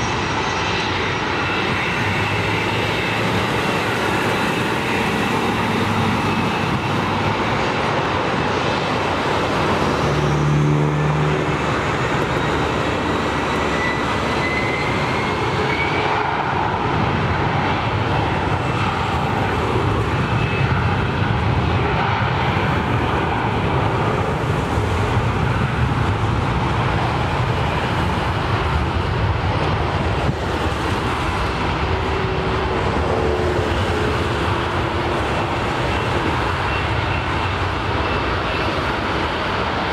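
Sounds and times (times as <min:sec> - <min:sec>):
jet engines at takeoff power: 0:00.0 - 0:39.9.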